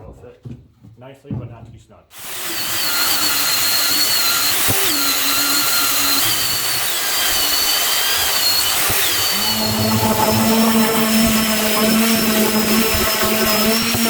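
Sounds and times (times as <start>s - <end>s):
electric sander on wood: 2.2s - 14.0s.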